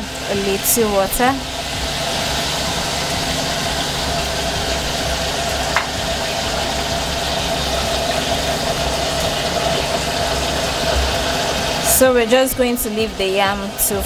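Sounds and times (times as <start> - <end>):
constant hum: 0.0 - 14.0.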